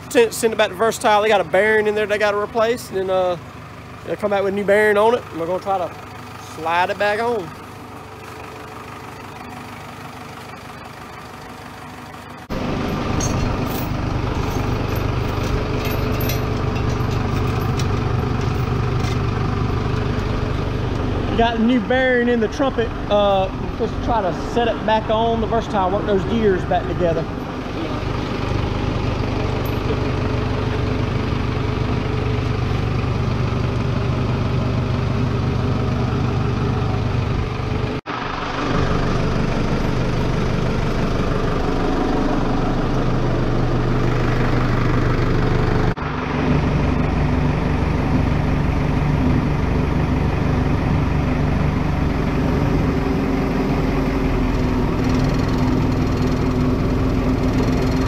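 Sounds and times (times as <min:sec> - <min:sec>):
loader engine idling: 0:00.0 - 0:58.0.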